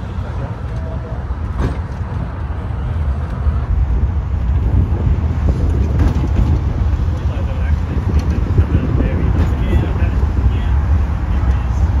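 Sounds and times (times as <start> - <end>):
tram rumbling: 0.0 - 12.0
wind buffeting microphone: 0.0 - 12.0.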